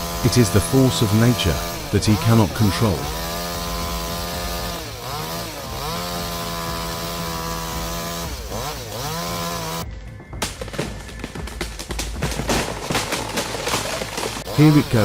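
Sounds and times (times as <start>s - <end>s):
chainsaw running at high revs: 0.0s - 9.8s, 12.6s - 15.0s.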